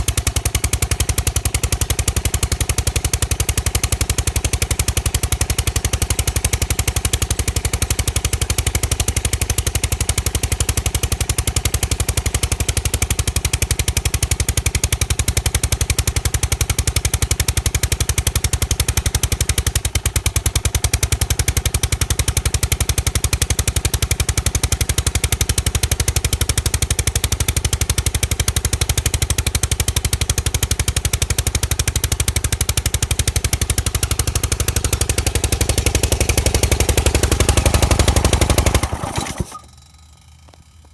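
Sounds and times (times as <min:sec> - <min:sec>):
mower engine hammering pulse: 0:00.0 - 0:40.9.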